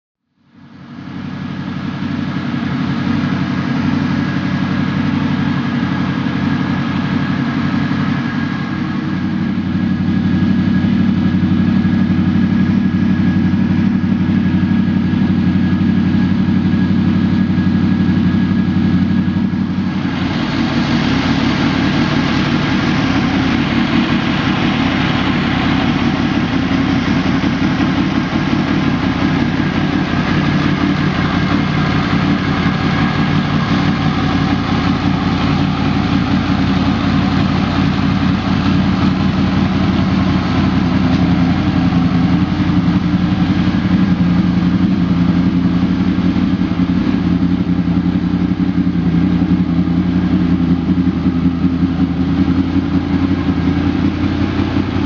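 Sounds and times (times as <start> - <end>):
motorcycle engine idling: 0.2 - 55.0.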